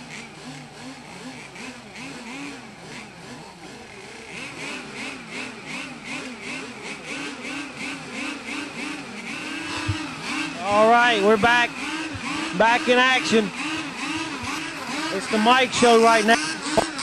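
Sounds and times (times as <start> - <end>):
small boat engines running: 0.0 - 17.0.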